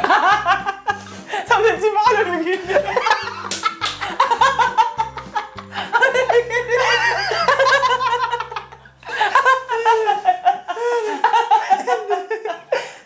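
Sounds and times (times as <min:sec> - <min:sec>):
young men laughing: 0:00.0 - 0:01.5, 0:02.1 - 0:13.0.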